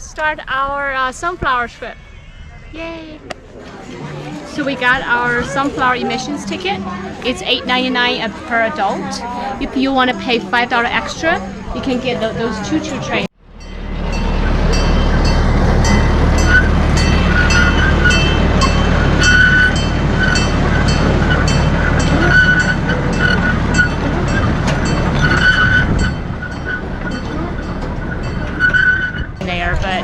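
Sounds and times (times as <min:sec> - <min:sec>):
low engine rumble: 0:00.0 - 0:30.0.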